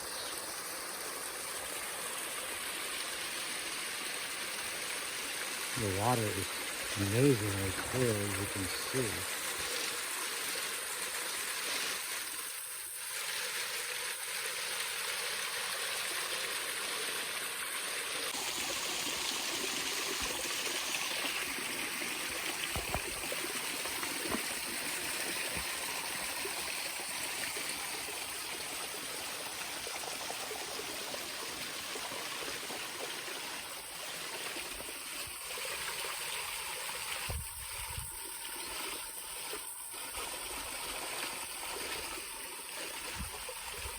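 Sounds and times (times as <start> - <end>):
waterfall and creek rushing: 0.0 - 43.9.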